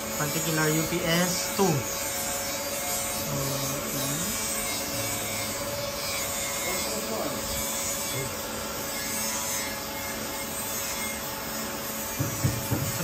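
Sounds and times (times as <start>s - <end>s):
constant hum: 0.0s - 13.0s
cooling fans rushing: 0.0s - 13.0s.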